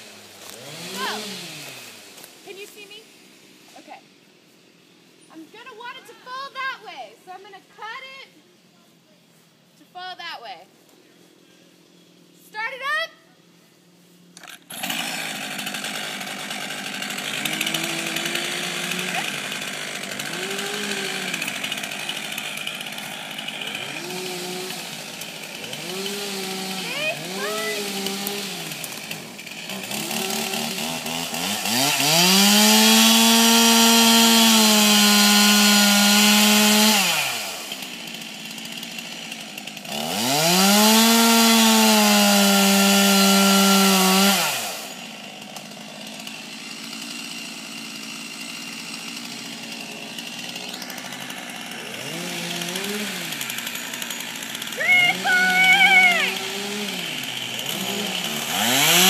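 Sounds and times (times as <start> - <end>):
chainsaw revving and idling: 0.0 - 4.0, 14.4 - 59.0.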